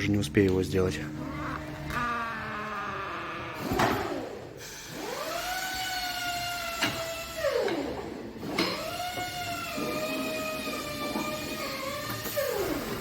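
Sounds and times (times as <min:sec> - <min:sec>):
electric motor whining: 0:01.0 - 0:13.0.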